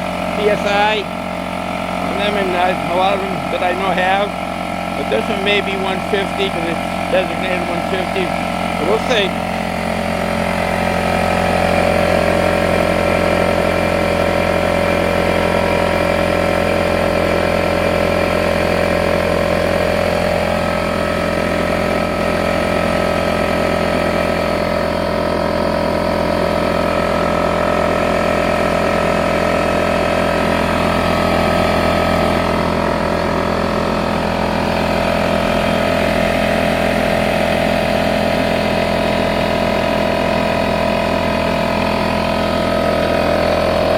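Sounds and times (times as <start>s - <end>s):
air compressor running: 0.0s - 43.9s.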